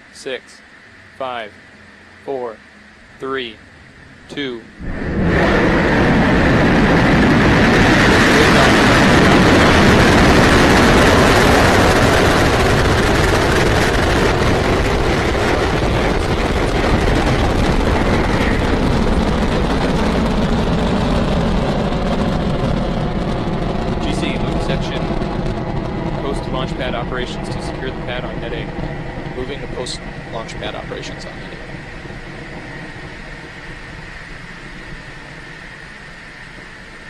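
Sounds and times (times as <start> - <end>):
rocket engines rumbling: 0.0 - 37.0.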